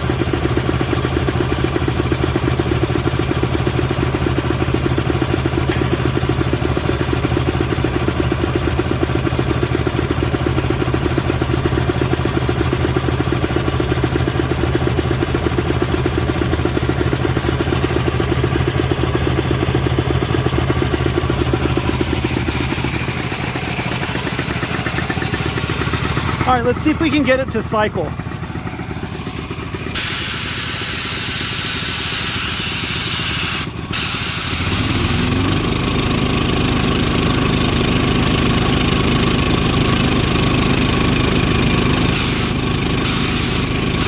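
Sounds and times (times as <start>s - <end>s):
air compressor engine running: 0.0s - 44.0s.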